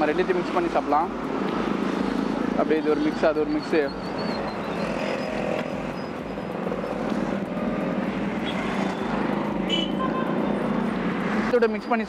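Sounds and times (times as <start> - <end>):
passing vehicle engines: 0.0 - 12.0
road traffic din: 0.0 - 12.0.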